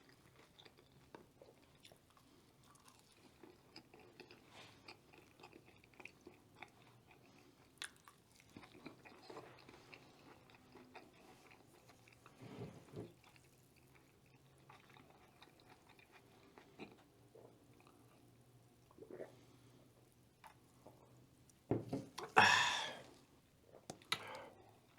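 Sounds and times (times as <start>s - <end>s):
chewing crunchy food: 0.0s - 12.4s, 13.0s - 21.2s.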